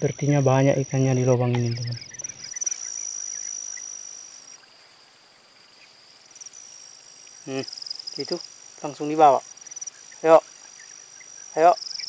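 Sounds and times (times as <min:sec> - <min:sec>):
insects trilling chorus: 0:00.0 - 0:12.0.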